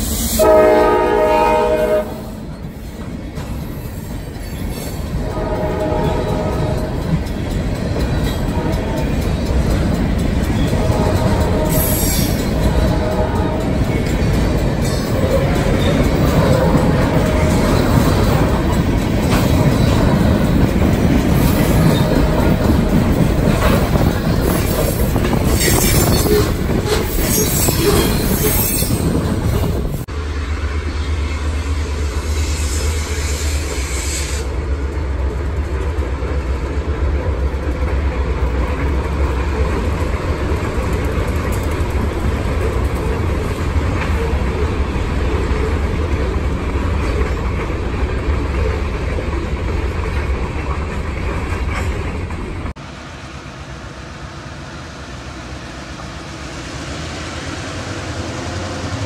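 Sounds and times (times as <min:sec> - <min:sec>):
distant freight train rumbling: 0:00.0 - 0:59.0.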